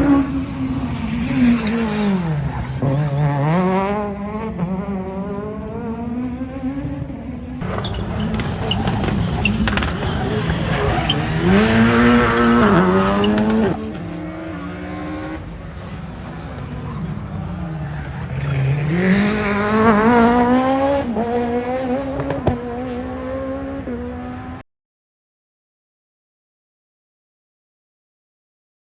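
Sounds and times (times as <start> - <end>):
rally car engine accelerating: 0.0 - 24.6.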